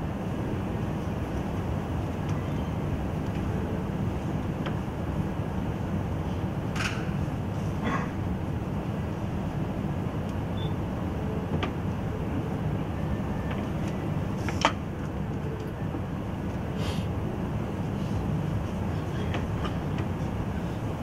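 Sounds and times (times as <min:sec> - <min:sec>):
low room rumble: 0:00.0 - 0:21.0.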